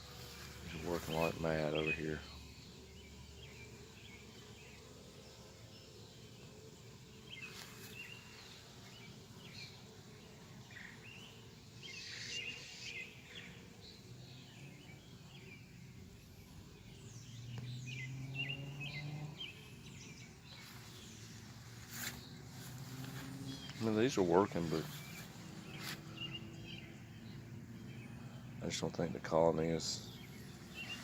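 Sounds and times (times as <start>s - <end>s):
birds chirping: 0.0s - 31.0s
honey bee buzzing: 0.0s - 31.0s.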